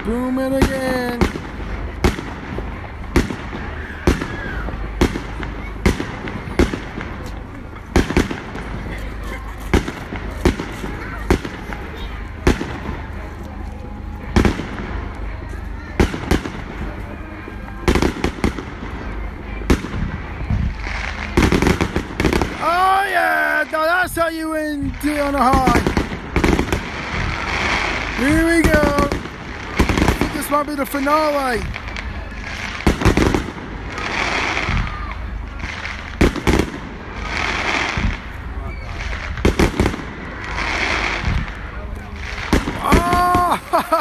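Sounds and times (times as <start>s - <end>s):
fireworks booming bangs: 0.0s - 44.0s.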